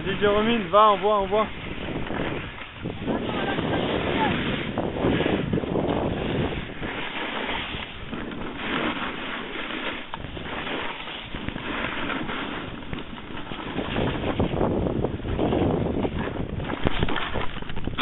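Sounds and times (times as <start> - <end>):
snowboard edges scraping snow: 0.0 - 18.0
wind rushing on microphone: 0.0 - 18.0.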